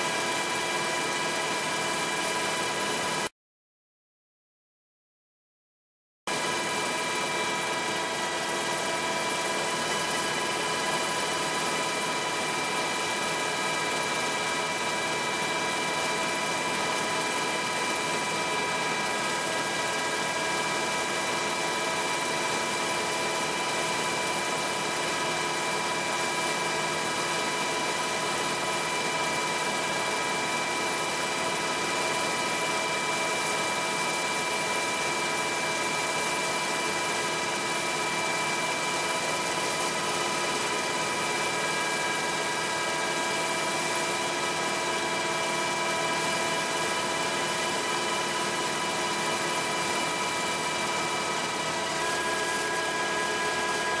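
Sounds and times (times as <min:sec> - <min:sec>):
helicopter rotor drone: 0:00.0 - 0:03.3, 0:06.3 - 0:54.0
turbine whine: 0:06.3 - 0:54.0.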